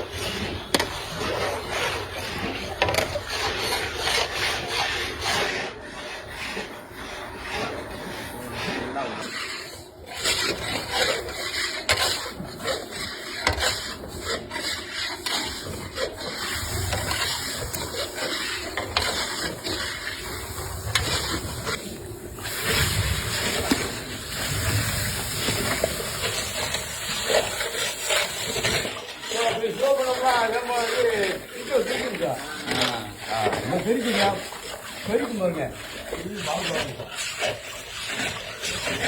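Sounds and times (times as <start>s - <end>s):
ladle scraping and stirring in pan: 0.0s - 39.0s.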